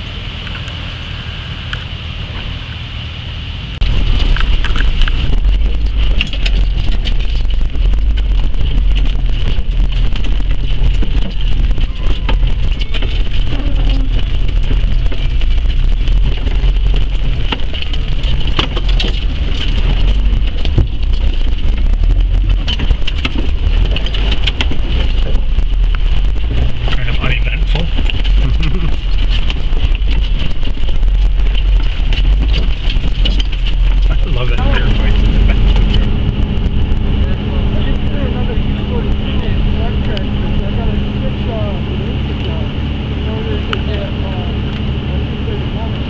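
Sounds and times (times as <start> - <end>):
vehicle engine low rumble: 0.0 - 46.0.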